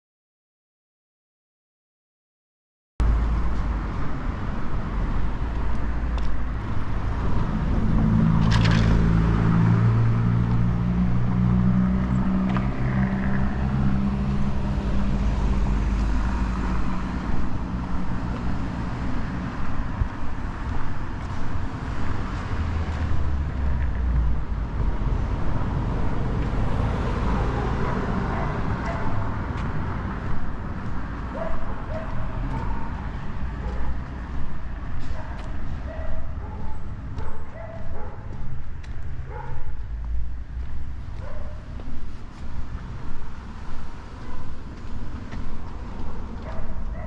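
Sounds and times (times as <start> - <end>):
low traffic rumble: 3.0 - 47.0.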